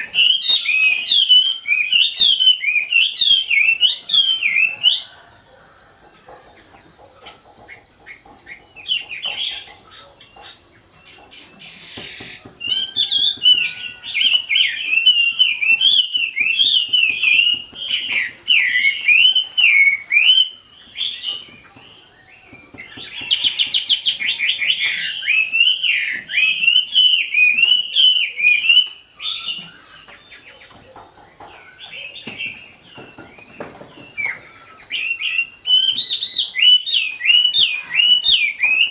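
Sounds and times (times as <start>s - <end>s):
songbird warbling chirps: 0.0s - 38.9s.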